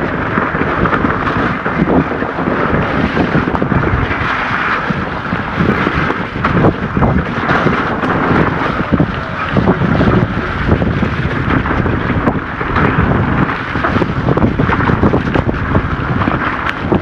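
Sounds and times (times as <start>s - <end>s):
low rumble of bike riding: 0.0s - 17.0s
wind buffeting microphone: 0.0s - 17.0s.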